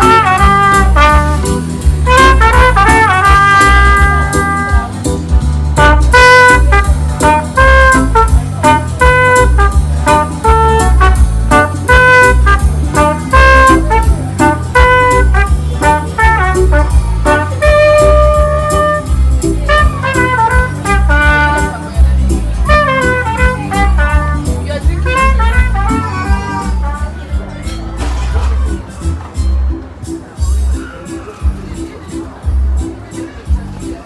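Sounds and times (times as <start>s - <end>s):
pulsing bass: 0.0s - 27.7s
jazzy brass music: 0.0s - 28.8s.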